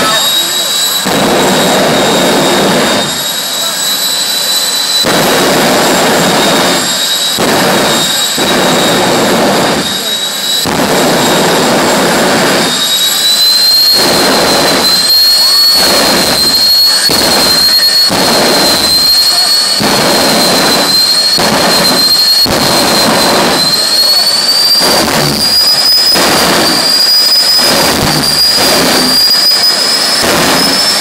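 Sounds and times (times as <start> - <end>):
jet turbine engine whine: 0.0 - 31.0.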